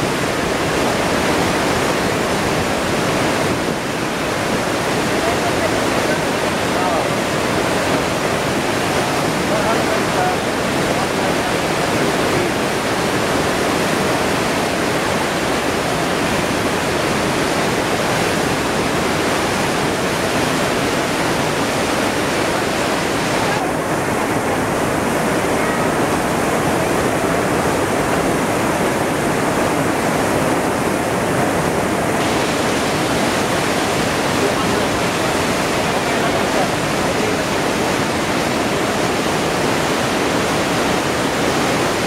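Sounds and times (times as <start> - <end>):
waterfall rushing: 0.0 - 42.0
white-water rapids: 0.0 - 42.0.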